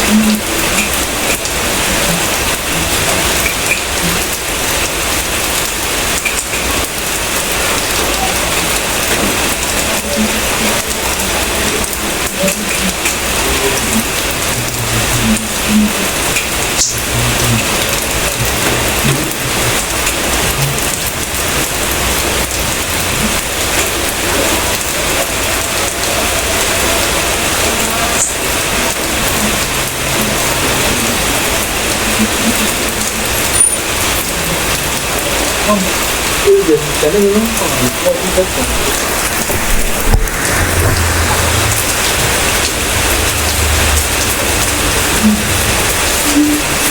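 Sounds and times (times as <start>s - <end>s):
rain falling on a surface: 0.0s - 46.9s.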